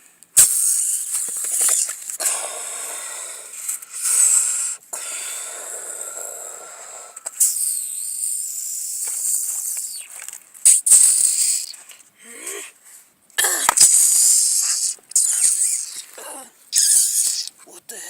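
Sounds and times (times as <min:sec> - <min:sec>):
harsh high-pitched hissing: 0:00.4 - 0:11.8, 0:13.4 - 0:17.6.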